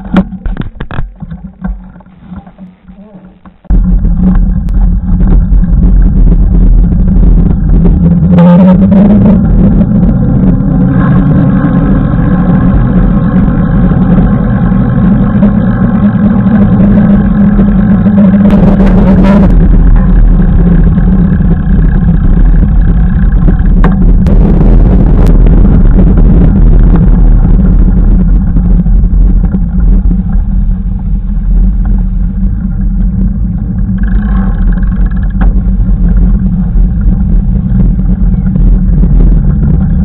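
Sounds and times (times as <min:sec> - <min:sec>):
motor humming: 0:00.0 - 0:40.0
wind rumble on microphone: 0:00.0 - 0:40.0.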